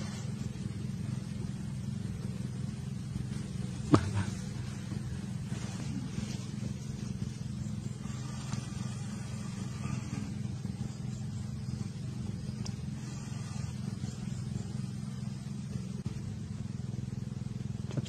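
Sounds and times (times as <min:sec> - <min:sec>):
low motor hum: 0:00.0 - 0:18.0.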